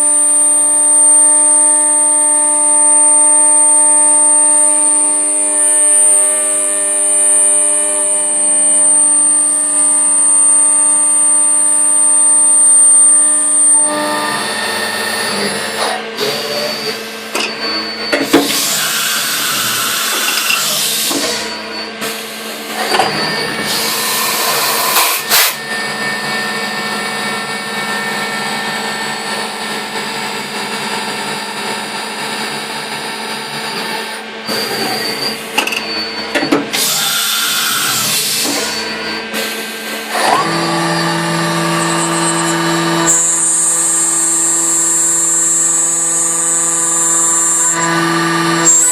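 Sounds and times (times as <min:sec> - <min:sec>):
milling machine spindle whine: 0:00.0 - 0:48.9.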